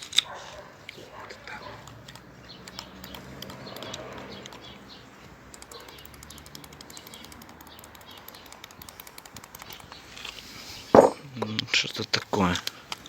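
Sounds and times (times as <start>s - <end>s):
faint clicking and tapping on metal parts: 0.0s - 13.0s.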